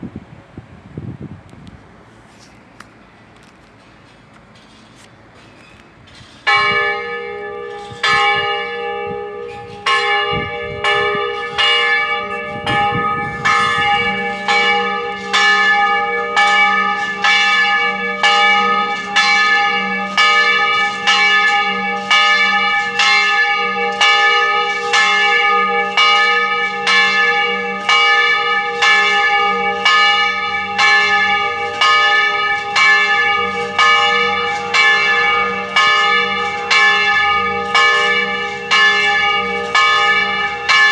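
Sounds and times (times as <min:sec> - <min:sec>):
church bell tolling: 0:06.3 - 0:40.9.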